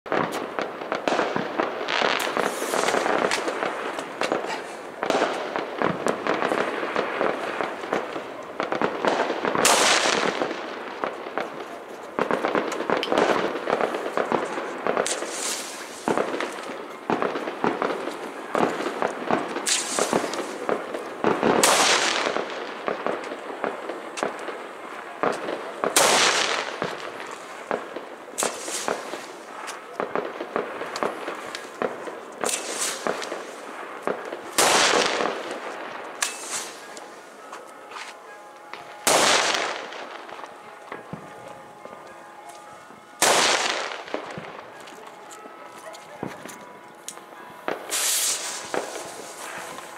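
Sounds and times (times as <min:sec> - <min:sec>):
firecrackers and fireworks banging: 0:00.1 - 0:49.9
loud firework blasts: 0:00.1 - 0:49.9.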